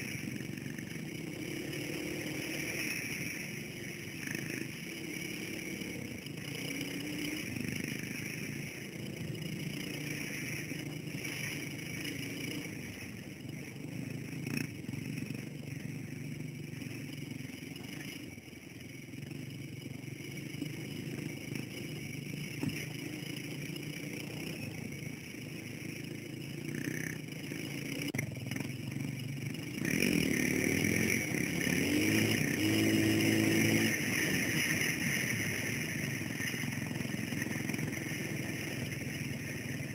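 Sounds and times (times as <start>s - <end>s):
dirt bike engine revving: 0.0s - 28.7s, 29.4s - 39.9s.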